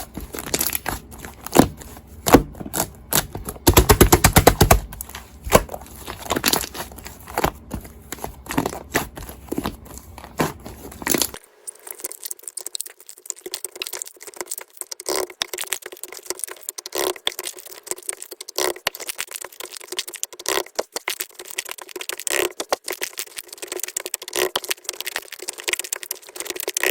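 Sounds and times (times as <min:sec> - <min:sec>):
crinkling and clicking handling: 0:00.0 - 0:26.9.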